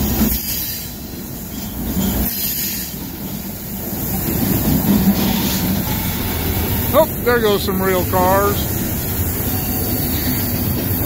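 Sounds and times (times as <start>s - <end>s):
freight train wheels rumbling on rail: 0.0s - 11.0s.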